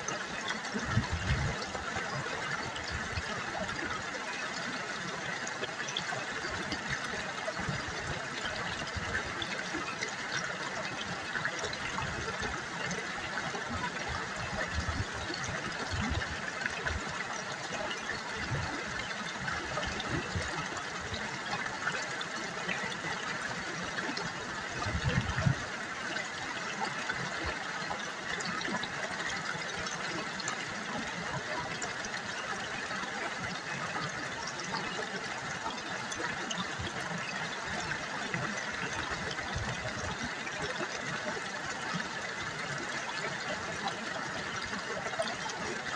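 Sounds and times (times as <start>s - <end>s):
river water babbling over stones: 0.0s - 45.9s.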